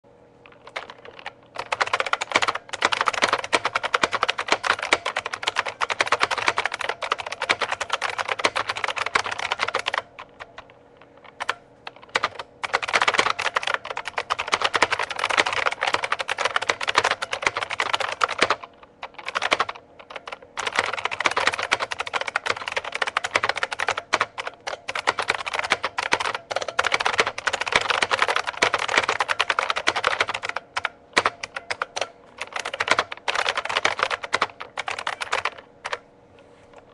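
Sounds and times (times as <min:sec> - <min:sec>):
fast clicky keyboard typing: 0:00.5 - 0:36.0.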